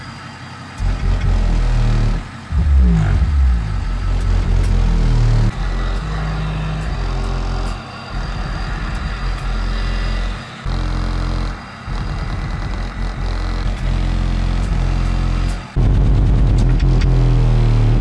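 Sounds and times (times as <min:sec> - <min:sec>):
deep bass notes from subwoofers: 0:00.8 - 0:18.0.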